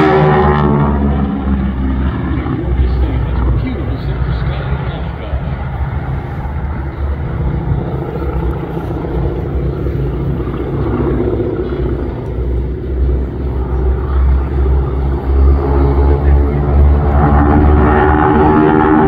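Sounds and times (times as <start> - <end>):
propeller plane engines rumbling: 0.0 - 19.0.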